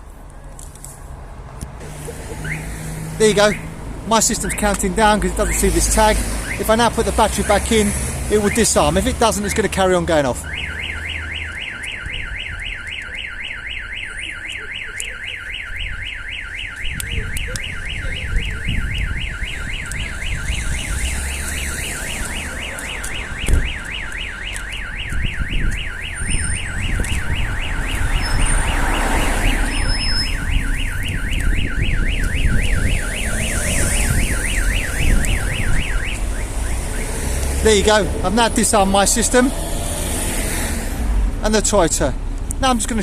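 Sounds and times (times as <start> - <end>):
car alarm siren warbling: 1.8 - 40.8.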